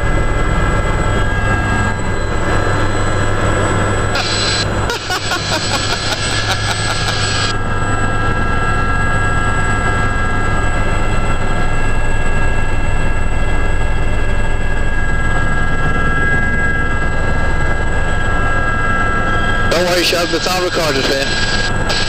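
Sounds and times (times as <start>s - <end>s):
helicopter rotor and engine drone: 0.0s - 22.0s
high turbine whine: 0.0s - 22.0s.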